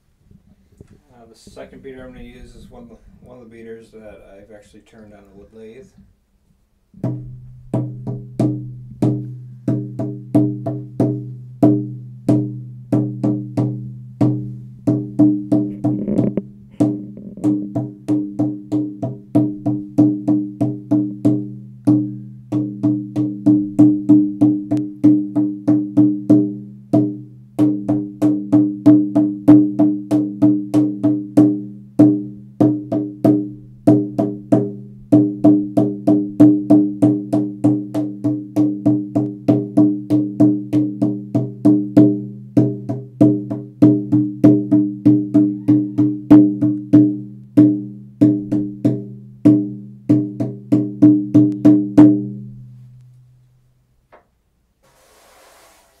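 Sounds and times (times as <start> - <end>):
frame drum beating: 7.0 - 52.5.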